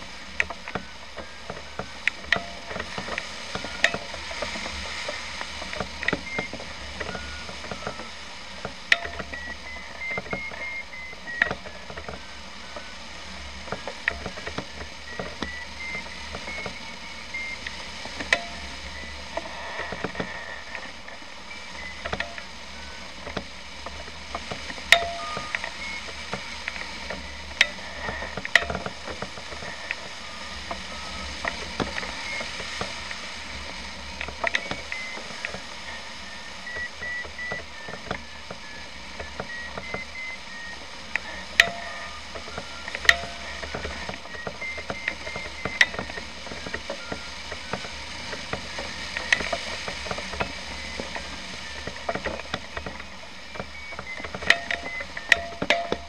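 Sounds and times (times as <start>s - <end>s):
steady rush of noise: 0.0s - 56.0s
electronic beeps changing pitch: 5.6s - 23.7s, 24.4s - 33.7s, 34.4s - 56.0s.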